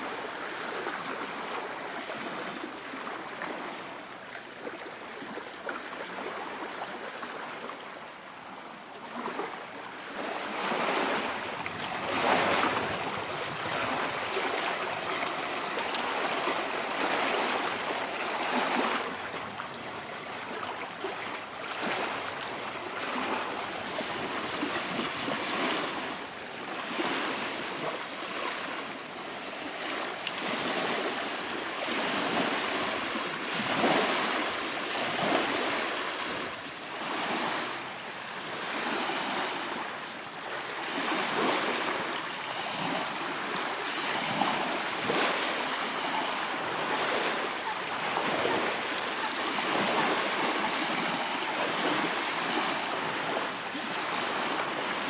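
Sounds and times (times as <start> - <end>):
waves lapping on pebbly shore: 0.0 - 7.6, 8.4 - 55.0.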